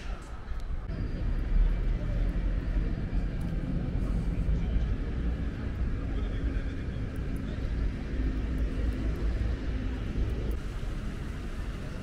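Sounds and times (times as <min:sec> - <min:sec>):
low rumble of passing traffic: 0:00.7 - 0:12.0.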